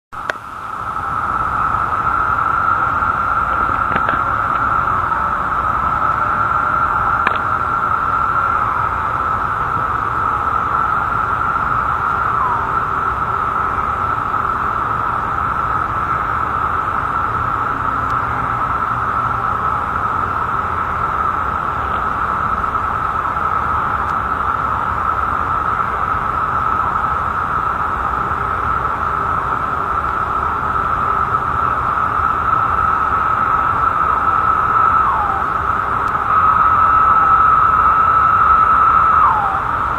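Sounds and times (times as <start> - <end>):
cicada call dropping in pitch: 0.2 - 39.9
cicadas droning: 0.2 - 39.9.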